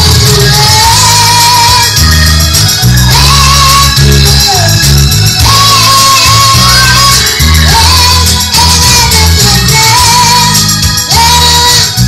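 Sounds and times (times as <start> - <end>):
pop song over loudspeaker: 0.0 - 12.0.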